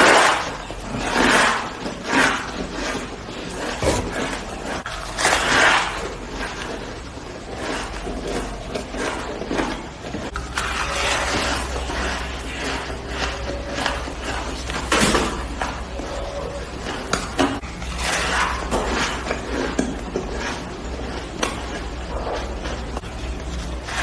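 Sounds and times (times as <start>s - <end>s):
ice being chewed: 0.0s - 24.0s.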